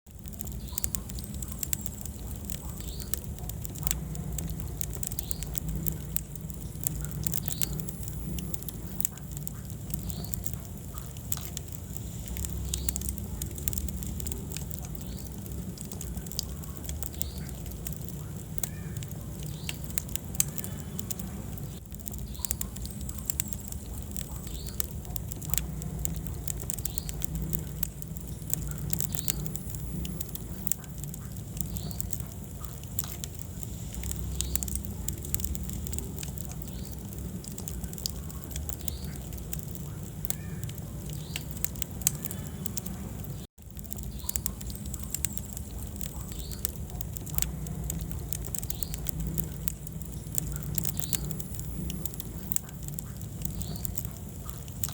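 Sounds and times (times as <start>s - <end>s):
low rumble of flame: 0.0s - 54.9s
wood fire crackling and popping: 0.0s - 54.9s.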